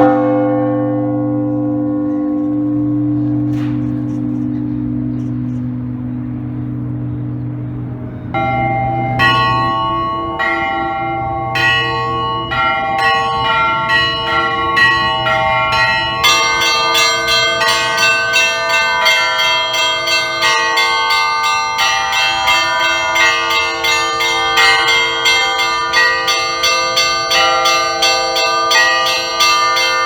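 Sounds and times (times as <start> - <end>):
church bells pealing: 0.0 - 30.0
low bell hum: 0.0 - 30.0.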